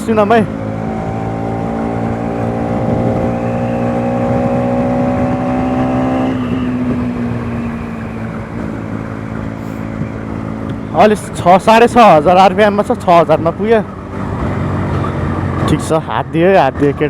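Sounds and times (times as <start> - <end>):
motorcycle engine revving high: 0.0 - 16.0.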